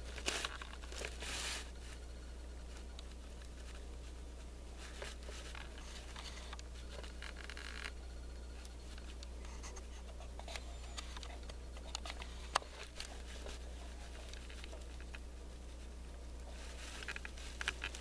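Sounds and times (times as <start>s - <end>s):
faint scratching and clicking: 0.0s - 18.0s
steady low hum: 0.0s - 18.0s.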